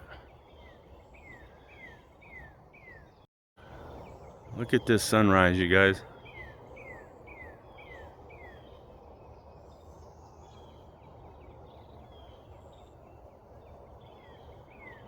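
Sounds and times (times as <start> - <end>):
faint insect calls: 0.0 - 15.0.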